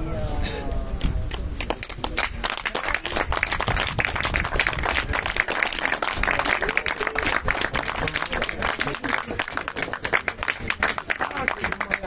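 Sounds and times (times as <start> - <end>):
people clapping: 1.0 - 12.0.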